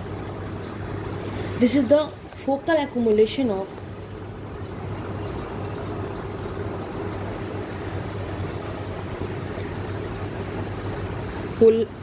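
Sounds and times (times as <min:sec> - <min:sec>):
constant low hum: 0:00.0 - 0:12.0
rushing background noise: 0:00.0 - 0:12.0.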